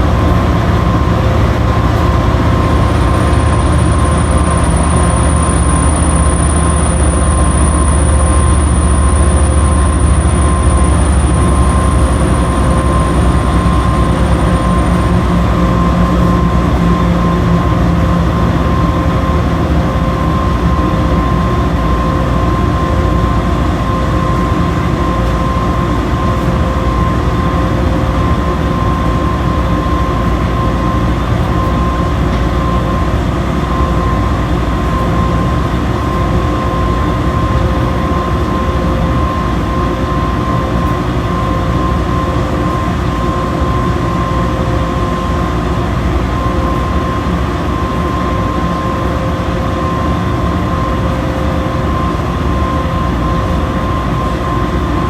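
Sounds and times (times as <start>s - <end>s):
washing machine running: 0.0s - 55.0s.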